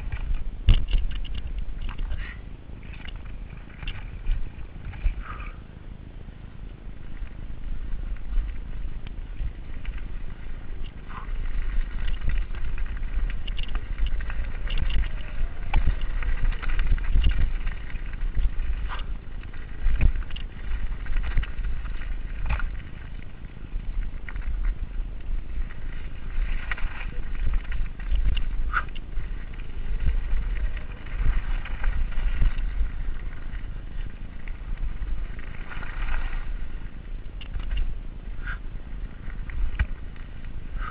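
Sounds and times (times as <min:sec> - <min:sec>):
bike clattering over bumps: 0:00.0 - 0:05.5, 0:08.2 - 0:38.7
wind buffeting microphone: 0:00.0 - 0:40.9
tyre noise on dirt: 0:07.1 - 0:40.9.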